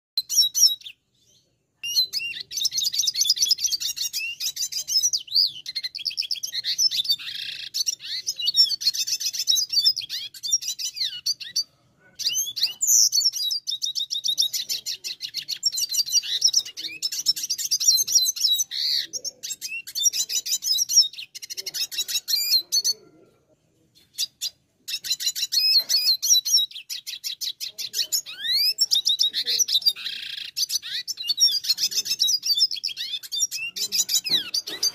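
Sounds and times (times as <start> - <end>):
bird twittering and trilling: 0.2 - 34.9.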